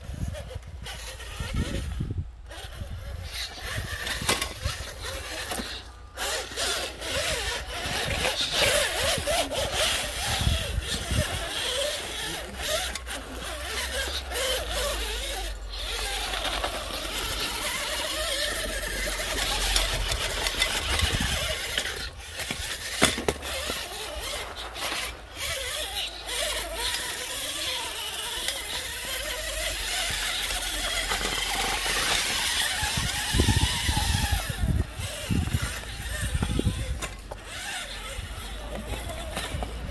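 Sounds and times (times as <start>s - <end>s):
toy car motor and gears whining: 0.0s - 39.9s
tyres scrabbling on stone: 0.2s - 39.9s.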